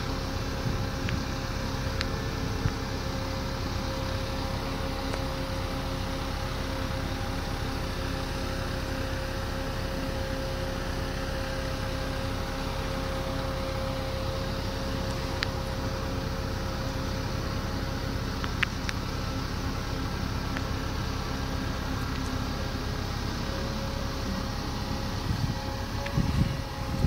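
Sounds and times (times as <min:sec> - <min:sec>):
heavy machinery droning: 0:00.0 - 0:27.0.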